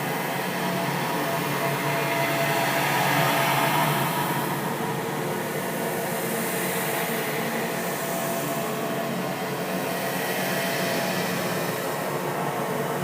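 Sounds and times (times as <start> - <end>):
noisy drone: 0.0 - 13.0.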